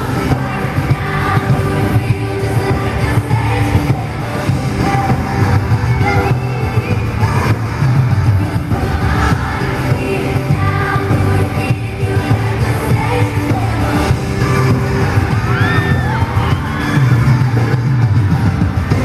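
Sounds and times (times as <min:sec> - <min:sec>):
female group vocals: 0:00.0 - 0:17.8
live pop band: 0:00.0 - 0:19.0.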